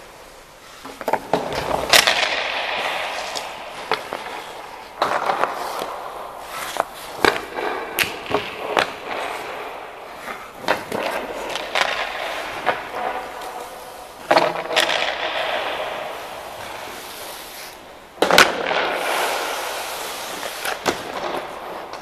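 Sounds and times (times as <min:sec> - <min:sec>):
ice skates scraping ice: 0:00.3 - 0:22.0.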